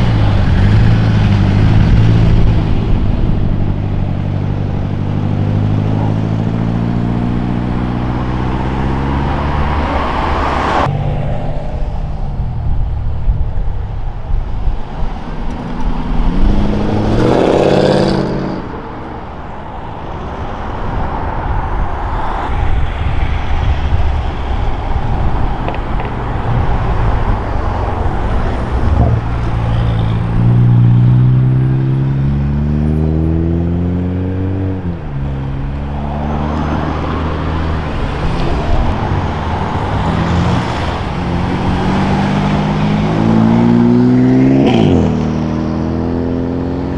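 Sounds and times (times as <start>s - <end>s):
cars accelerating away: 0.0s - 13.0s, 15.2s - 19.0s, 20.9s - 46.9s.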